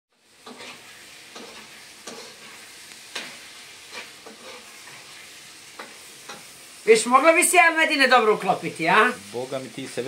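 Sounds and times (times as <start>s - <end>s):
steady hiss: 0.2s - 10.0s.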